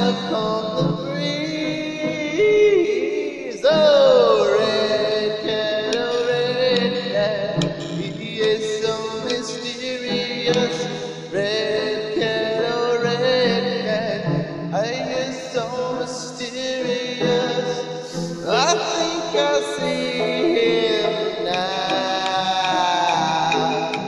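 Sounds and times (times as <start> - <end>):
man singing: 0.0 - 24.0
piano and synth keyboards: 0.0 - 24.0.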